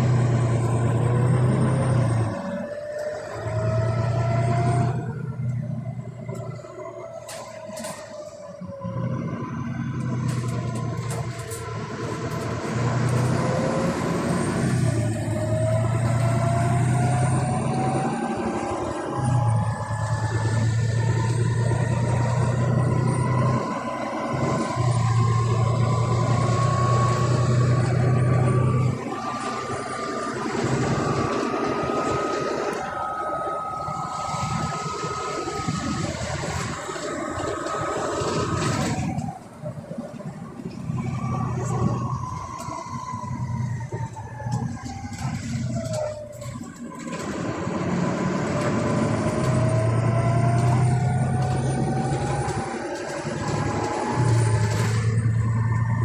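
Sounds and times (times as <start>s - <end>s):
diesel bus engine drone: 0.0s - 56.0s
rising whine: 0.0s - 56.0s.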